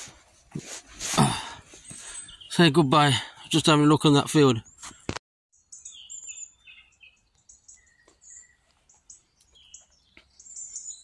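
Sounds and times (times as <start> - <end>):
small songbirds chirping: 1.3 - 11.0.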